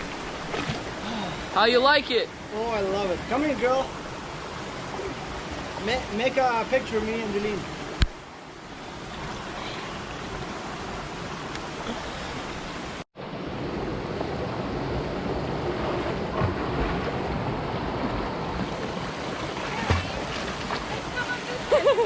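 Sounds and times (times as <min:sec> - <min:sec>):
rushing waterfall and creek: 0:00.0 - 0:22.0.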